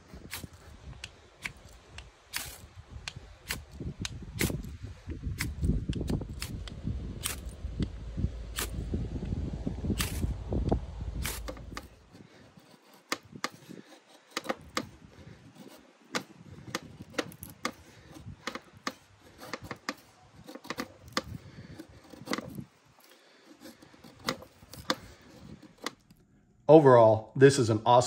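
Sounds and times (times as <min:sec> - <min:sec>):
knife scraping wooden stick: 0:00.0 - 0:04.7, 0:05.4 - 0:08.9, 0:10.0 - 0:26.2.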